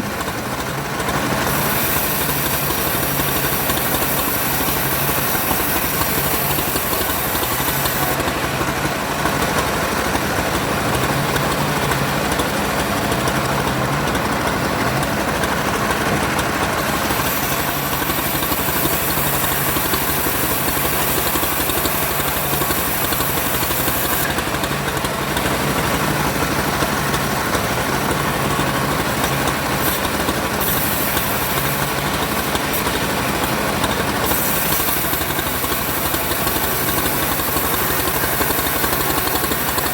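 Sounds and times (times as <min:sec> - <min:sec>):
engine-driven wood saw: 0:00.0 - 0:39.9.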